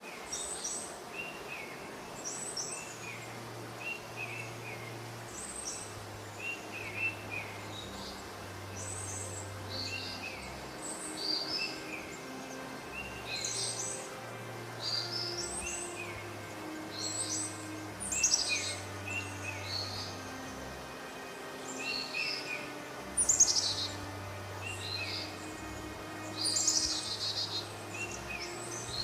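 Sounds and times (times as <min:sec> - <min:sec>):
low sustained tones: 0:00.0 - 0:29.0
small birds chirping: 0:00.0 - 0:29.0.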